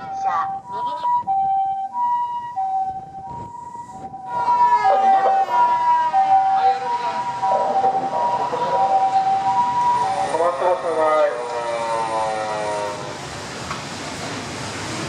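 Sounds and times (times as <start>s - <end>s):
siren gliding down in pitch: 0.0s - 13.2s
two-tone ambulance siren: 0.0s - 13.3s.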